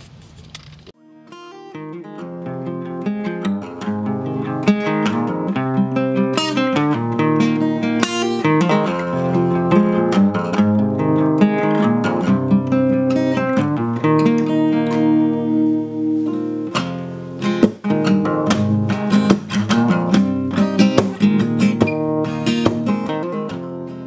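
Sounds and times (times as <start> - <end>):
acoustic guitar music: 0.9 - 24.0.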